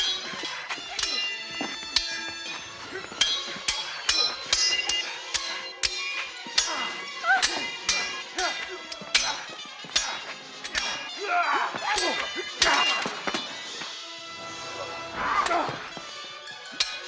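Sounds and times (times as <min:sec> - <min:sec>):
sword blades clashing: 0:00.0 - 0:13.8, 0:16.7 - 0:17.0.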